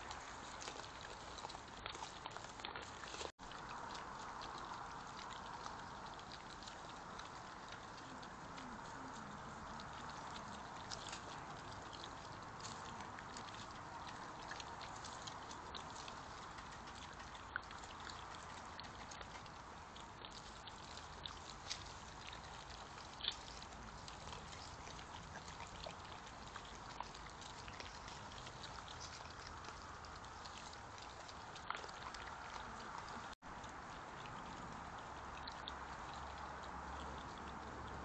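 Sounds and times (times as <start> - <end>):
badgers chewing and rooting: 0.0 - 38.0.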